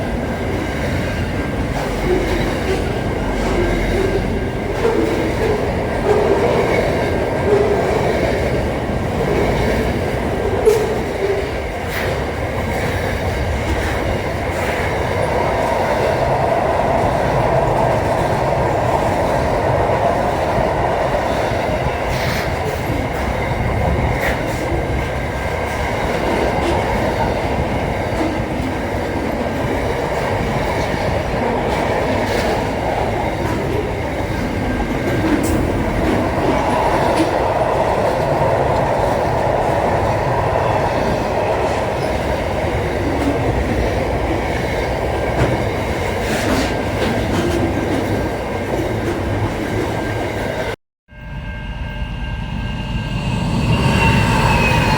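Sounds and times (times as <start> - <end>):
train rumbling on rails: 0.0 - 54.9.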